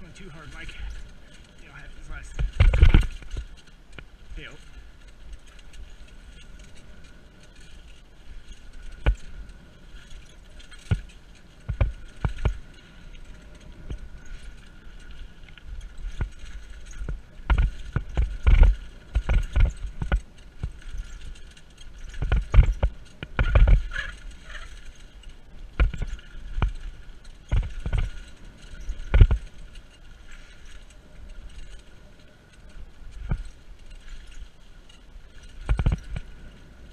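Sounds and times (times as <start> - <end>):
bike knocking and rattling: 0.0 - 36.9
bike tyres rolling over leaves: 0.0 - 36.9.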